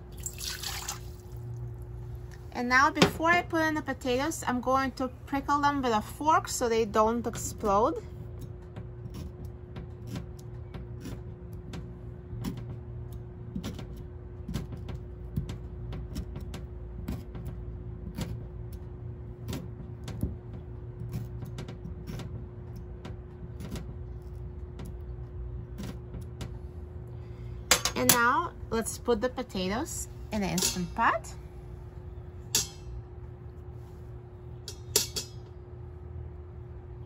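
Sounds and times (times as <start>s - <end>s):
low hum with faint tone: 0.0s - 37.0s.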